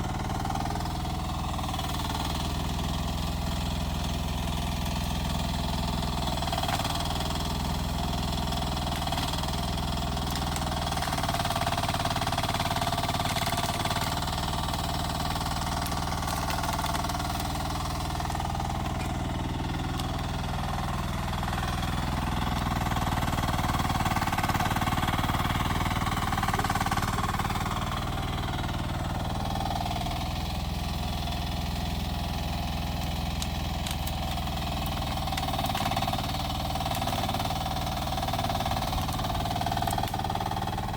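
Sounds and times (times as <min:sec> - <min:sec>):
mini excavator engine running: 0:00.0 - 0:40.9.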